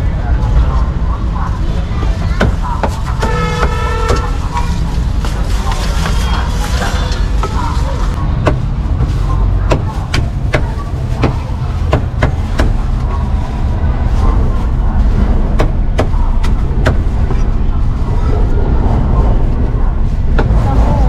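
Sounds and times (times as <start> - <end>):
street traffic rumble: 0.0 - 21.0.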